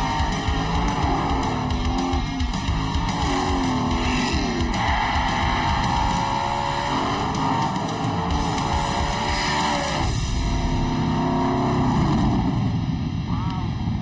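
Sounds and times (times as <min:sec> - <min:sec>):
guitar-driven background music: 0:00.0 - 0:13.8
race car engines accelerating: 0:00.0 - 0:14.0.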